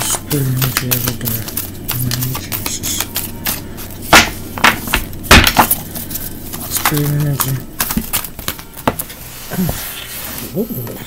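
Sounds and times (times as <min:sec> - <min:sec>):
cards being shuffled: 0:00.0 - 0:10.6.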